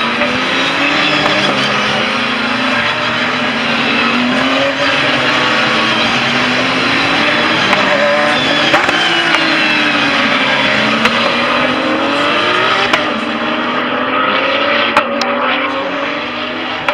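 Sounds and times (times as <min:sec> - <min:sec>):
race car engines passing: 0:00.0 - 0:16.9.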